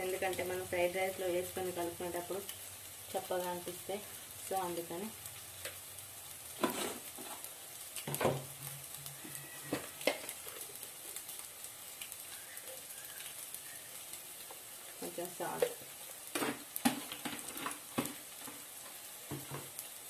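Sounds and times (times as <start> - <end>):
egg frying in oil: 0.0 - 20.0.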